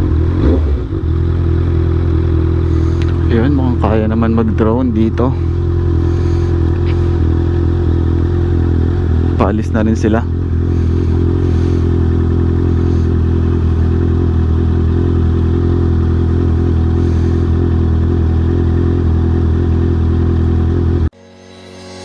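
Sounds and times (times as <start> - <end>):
motorcycle engine running: 0.0 - 21.2.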